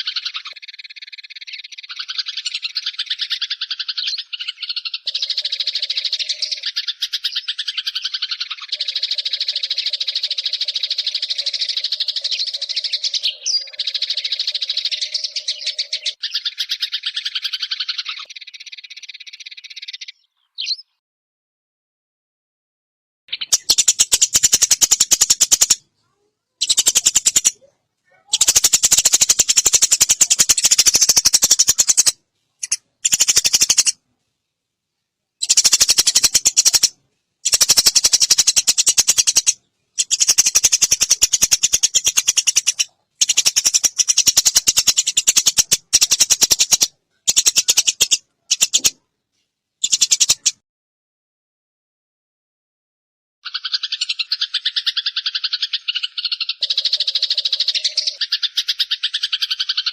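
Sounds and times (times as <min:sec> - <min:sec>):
sparrow chirps: 0:00.0 - 0:21.0, 0:23.3 - 0:34.0, 0:35.4 - 0:49.0, 0:49.8 - 0:50.6, 0:53.4 - 0:59.9.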